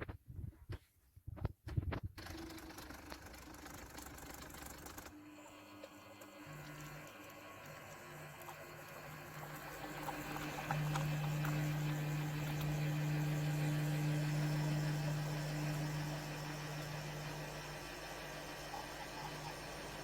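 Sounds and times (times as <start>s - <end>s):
pod coffee machine humming: 2.2s - 20.0s.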